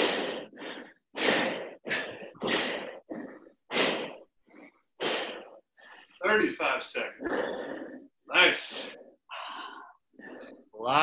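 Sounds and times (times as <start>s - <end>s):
person breathing hard: 0.0s - 6.2s, 7.2s - 10.8s.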